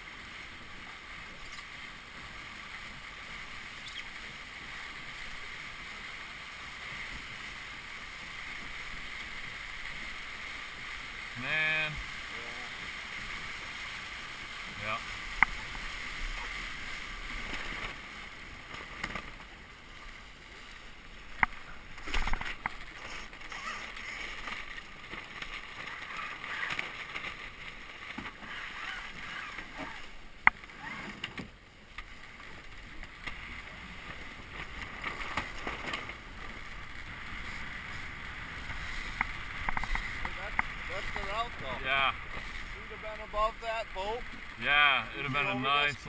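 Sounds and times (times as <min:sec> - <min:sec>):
water rushing along a hull: 0:00.0 - 0:46.0.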